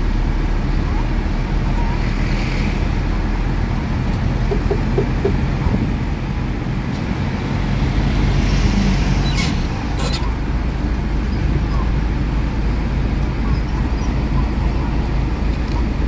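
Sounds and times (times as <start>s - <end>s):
truck engine and tyre noise: 0.0s - 16.0s.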